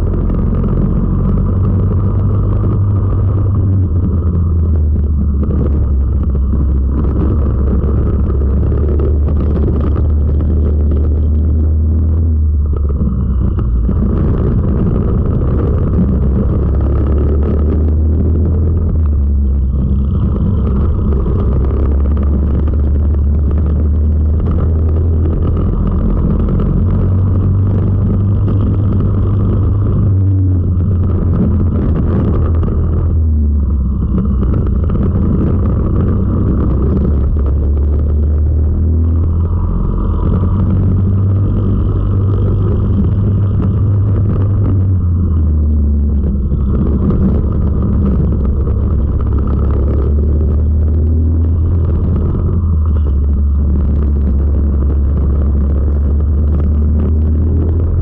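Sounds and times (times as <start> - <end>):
racing kart engine drone: 0.0 - 58.0.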